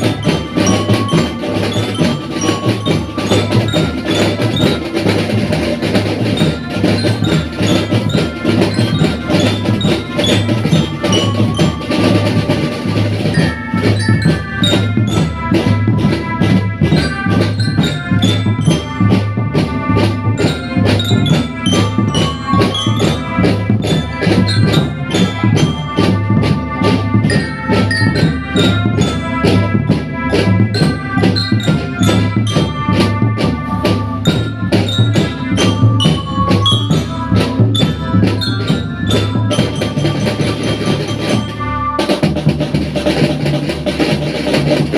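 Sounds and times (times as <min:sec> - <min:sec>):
melody line: 0:00.0 - 0:16.2, 0:16.9 - 0:42.5
rapid marching drums: 0:00.0 - 0:44.9.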